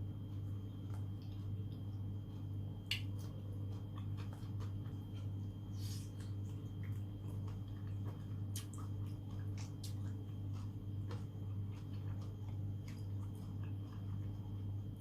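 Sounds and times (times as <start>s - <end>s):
steady low hum: 0.0s - 15.0s
wet eating clicks and smacks: 0.2s - 15.0s.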